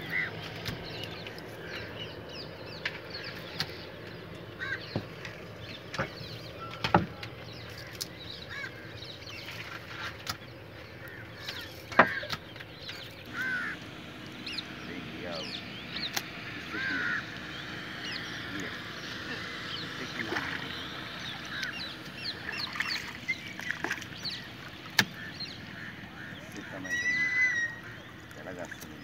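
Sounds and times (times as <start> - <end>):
birds chirping and cawing: 0.0 - 29.0.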